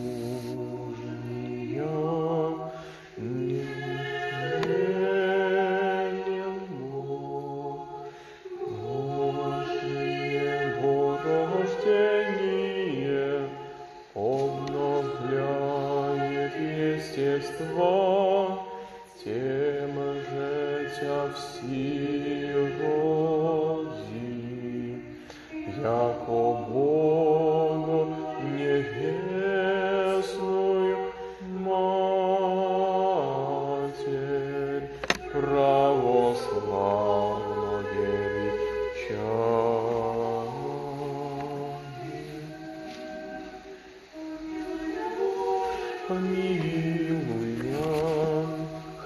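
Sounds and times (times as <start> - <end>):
choir singing a slow chant: 0.0 - 49.0.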